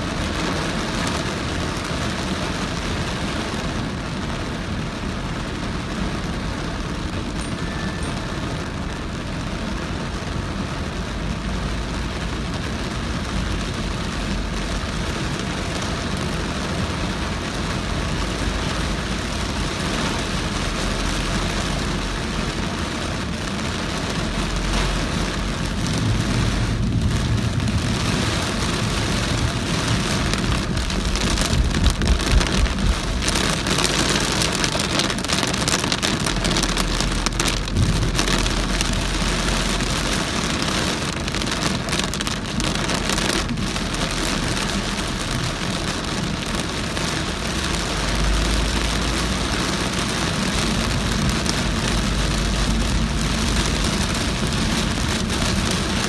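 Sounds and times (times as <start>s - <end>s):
car engine: 0.0s - 56.0s
heavy rain pelting a car: 0.0s - 56.0s
tyres on wet road: 0.0s - 56.0s.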